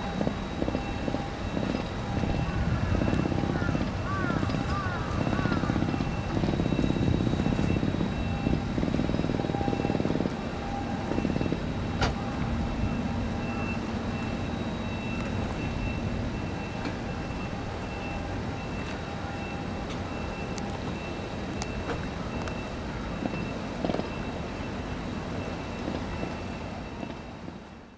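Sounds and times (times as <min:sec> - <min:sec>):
distant industrial rumble: 0:00.0 - 0:27.9
faint high pulsing tone: 0:00.0 - 0:27.9.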